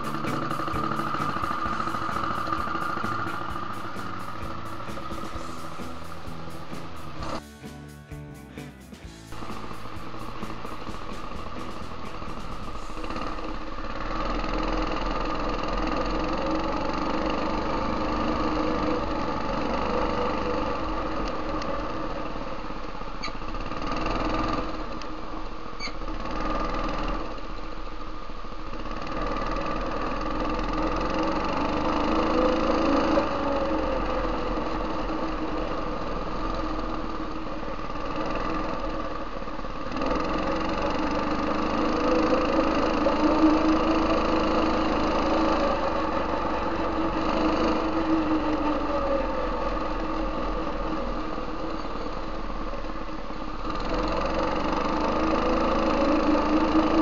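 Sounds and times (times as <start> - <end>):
go-kart engine revving: 0.0 - 7.5, 9.0 - 57.0.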